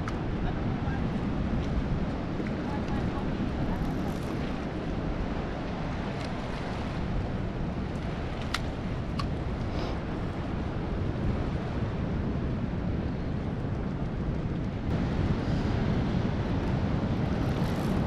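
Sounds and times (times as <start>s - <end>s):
surf washing against jetty: 0.0s - 18.0s
wind buffeting microphone: 0.0s - 18.0s.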